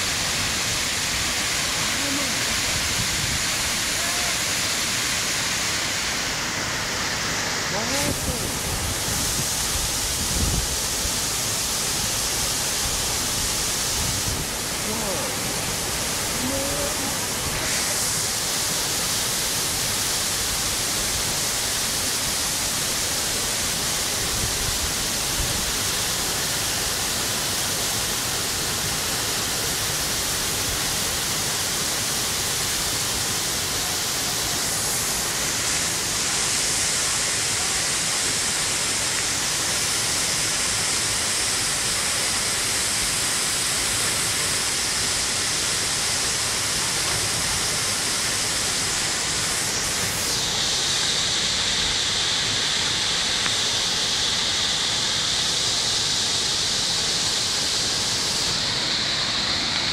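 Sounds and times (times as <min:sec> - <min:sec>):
waterfall and rushing river: 0:00.0 - 0:59.9.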